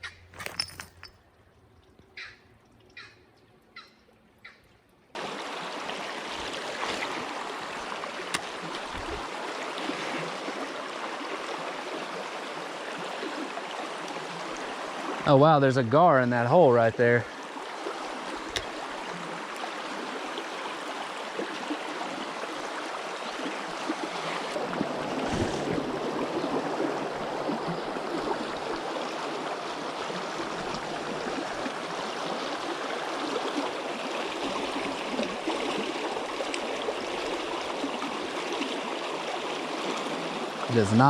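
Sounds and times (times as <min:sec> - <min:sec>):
creek water running over rocks: 0:05.1 - 0:41.0.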